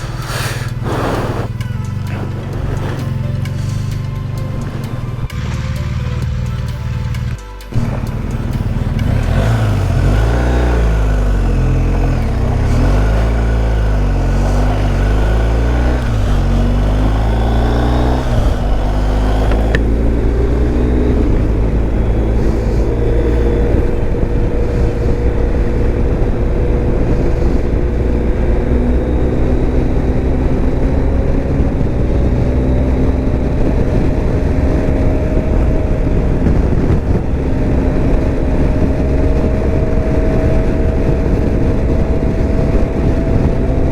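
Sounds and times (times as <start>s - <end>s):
wind rush: 0.0s - 5.4s, 7.7s - 43.9s
motorcycle engine running: 0.0s - 43.9s.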